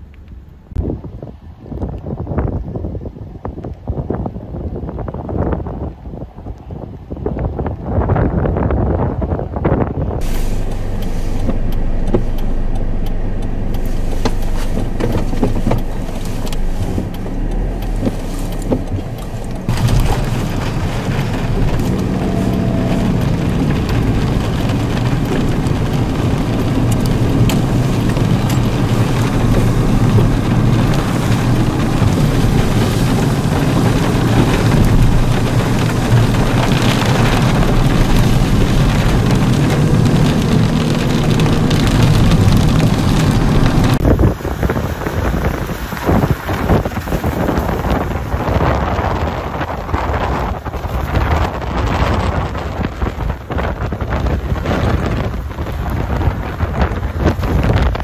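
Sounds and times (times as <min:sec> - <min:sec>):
car road noise on wet road: 0:00.0 - 0:58.0
wind buffeting microphone: 0:00.0 - 0:58.0
rain hitting windshield: 0:10.2 - 0:58.0.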